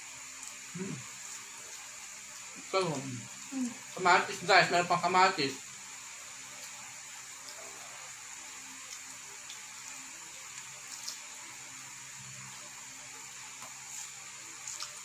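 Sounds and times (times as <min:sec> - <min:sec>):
steady hiss: 0:00.0 - 0:15.0
people chewing and eating: 0:00.1 - 0:04.4, 0:06.3 - 0:15.0.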